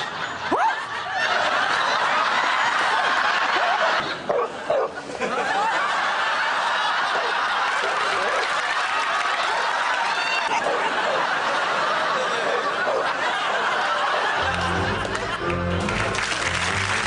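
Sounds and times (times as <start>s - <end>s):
studio audience laughing: 0.0s - 17.0s.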